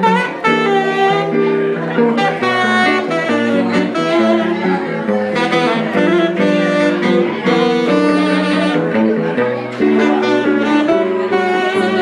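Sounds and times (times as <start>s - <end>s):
guitar accompaniment: 0.0s - 12.0s
saxophone jazz melody: 0.0s - 12.0s.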